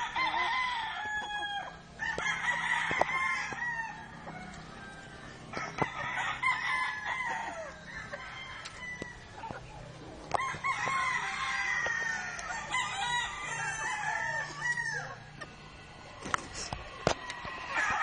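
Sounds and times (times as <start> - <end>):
rooster crowing: 0.0 - 9.4, 10.3 - 15.4, 17.0 - 18.0.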